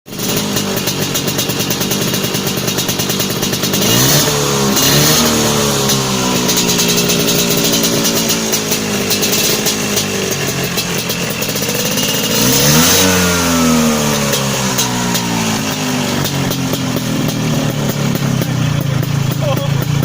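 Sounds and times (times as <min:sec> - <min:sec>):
scooter engine revving: 0:00.1 - 0:20.0.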